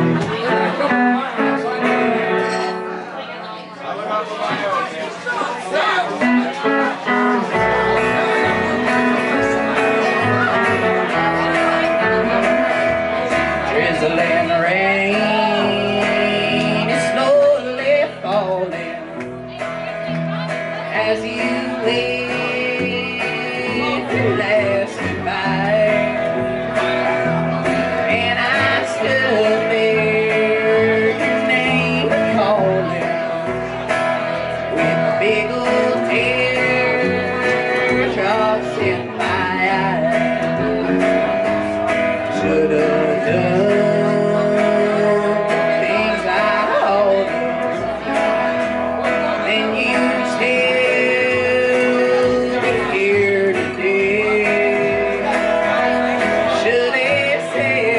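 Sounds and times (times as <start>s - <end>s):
upright bass: 0.0s - 3.5s, 5.7s - 57.9s
electric guitar: 0.0s - 3.7s, 4.5s - 57.9s
second guitar: 0.0s - 57.9s.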